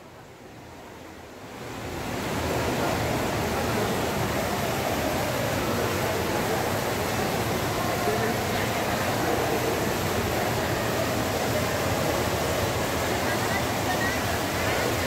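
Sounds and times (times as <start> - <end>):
running water of fountain: 0.0 - 15.0
crowd murmur: 2.4 - 15.0.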